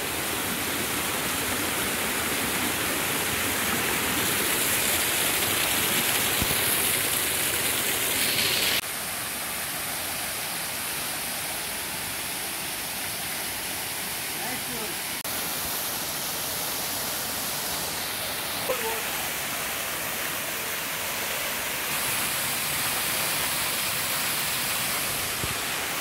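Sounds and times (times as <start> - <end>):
waterfall cascading over rocks: 0.0 - 26.0.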